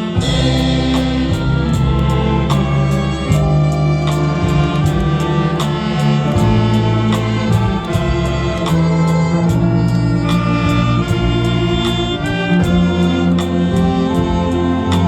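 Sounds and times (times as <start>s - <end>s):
bass: 0.0s - 15.0s
drums keeping a steady beat: 0.0s - 15.0s
saxophones holding chords: 0.0s - 15.0s.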